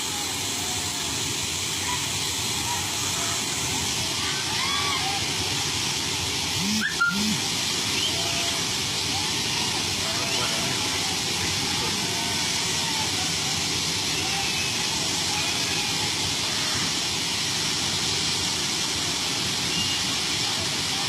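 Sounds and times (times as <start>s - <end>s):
train rushing through water: 0.0s - 21.0s.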